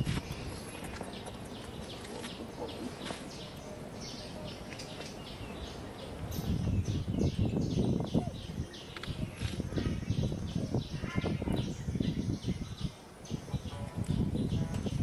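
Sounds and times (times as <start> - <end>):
faint outdoor background: 0.0 - 15.0
small birds chirping: 0.0 - 15.0.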